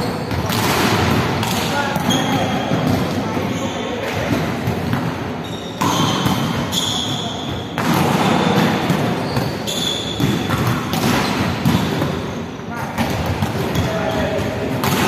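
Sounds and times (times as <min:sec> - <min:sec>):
volleyballs hit and bouncing: 0:00.0 - 0:15.0.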